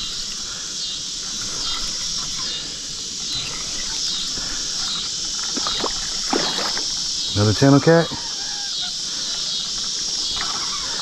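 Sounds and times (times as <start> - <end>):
insect chirping: 0.0 - 11.0
insects buzzing: 0.0 - 11.0.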